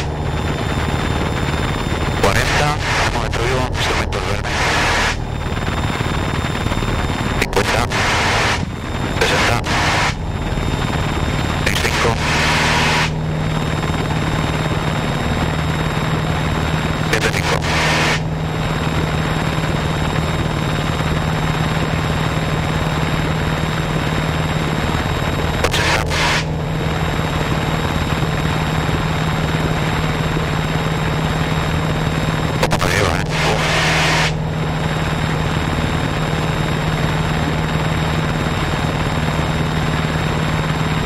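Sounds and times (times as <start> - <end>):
airplane engine droning: 0.0 - 41.0.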